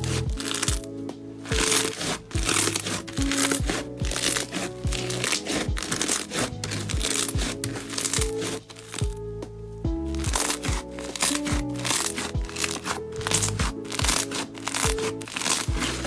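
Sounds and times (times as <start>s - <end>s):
background music with a beat: 0.0s - 16.0s.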